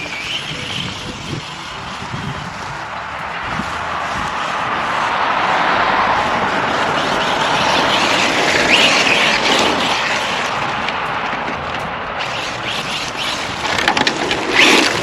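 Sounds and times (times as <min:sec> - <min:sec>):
electric motor whining: 0:00.0 - 0:15.0
tyres rushing over ground: 0:00.0 - 0:15.0.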